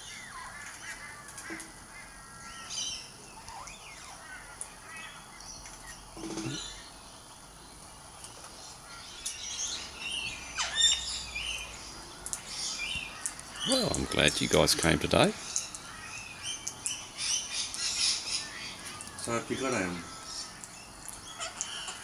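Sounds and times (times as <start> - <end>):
parrots chirping and squawking: 0.0 - 6.9, 8.6 - 22.0.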